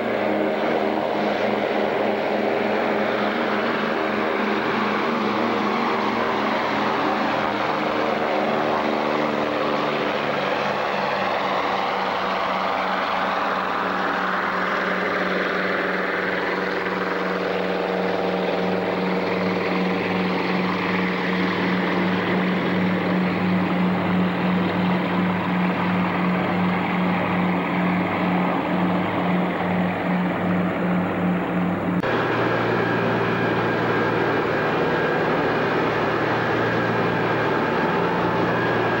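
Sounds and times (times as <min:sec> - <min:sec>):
propeller engines droning: 0:00.0 - 0:39.0.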